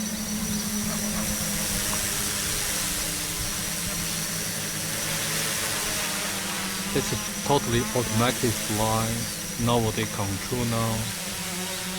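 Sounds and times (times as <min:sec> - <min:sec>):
drone propellers humming: 0:00.0 - 0:11.9.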